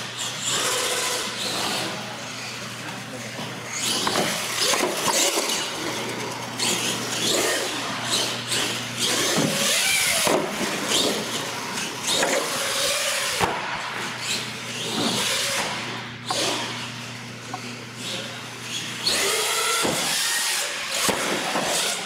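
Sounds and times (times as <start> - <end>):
toy truck motor and tyres: 0.0 - 22.0.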